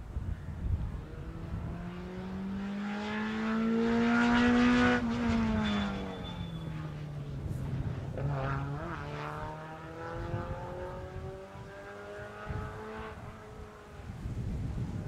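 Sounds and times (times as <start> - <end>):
rally car engine accelerating: 0.8 - 14.0.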